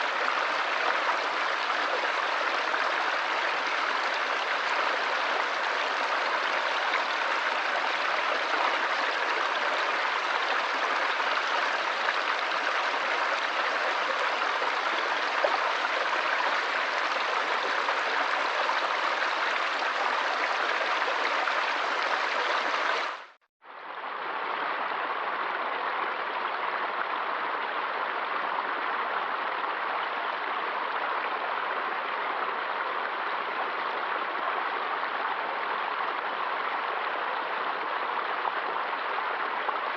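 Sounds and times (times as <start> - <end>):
stream water rushing and babbling: 0.0 - 39.9.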